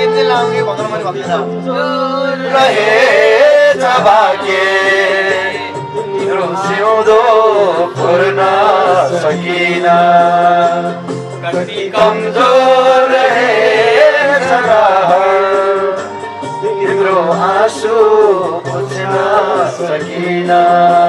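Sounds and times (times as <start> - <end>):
man singing slow song: 1.6 - 21.0.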